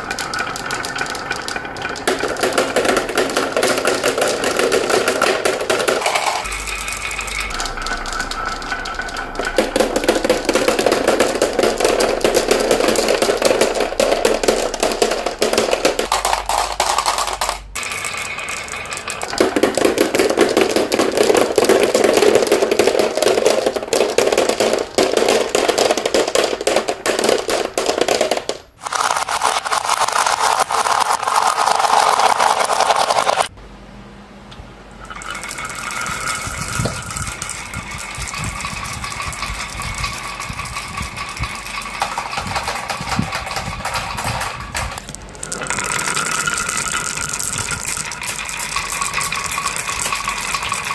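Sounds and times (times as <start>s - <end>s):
marbles rattling along marble run: 0.0s - 33.5s, 35.0s - 50.9s.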